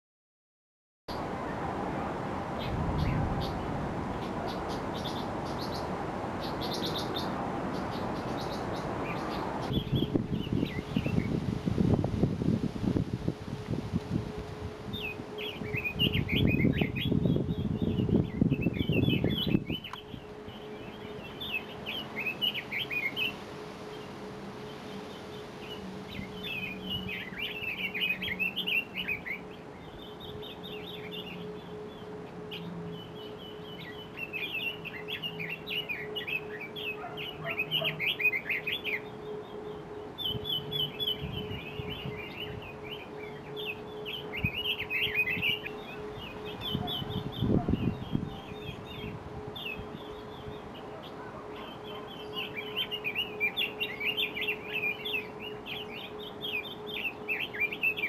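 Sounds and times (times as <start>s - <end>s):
faint steady hum: 1.1s - 58.0s
bird calling with high chirps: 2.6s - 11.5s, 14.9s - 58.0s.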